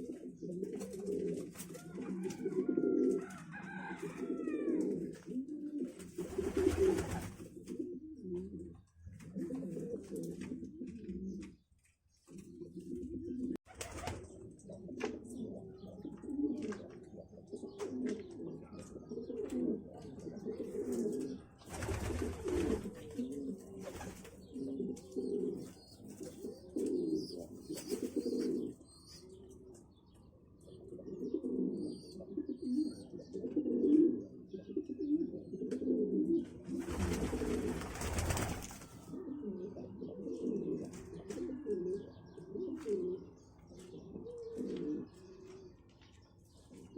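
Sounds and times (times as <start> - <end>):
pigeons cooing: 0.0 - 11.7, 12.3 - 46.2.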